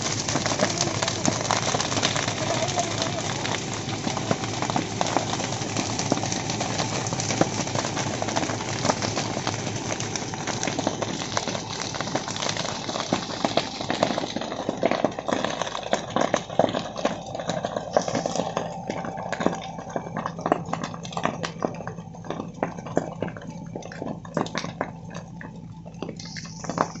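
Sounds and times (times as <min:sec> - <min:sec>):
brush fire crackling and popping: 0:00.0 - 0:27.0
steady rushing of fire: 0:00.0 - 0:27.0.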